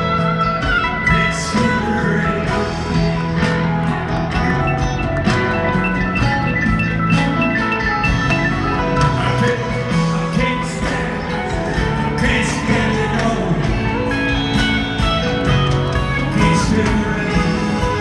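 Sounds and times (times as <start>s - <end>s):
bass: 0.0s - 18.0s
drums: 0.0s - 18.0s
guitars: 0.0s - 18.0s
keyboard repeated high notes: 0.0s - 18.0s.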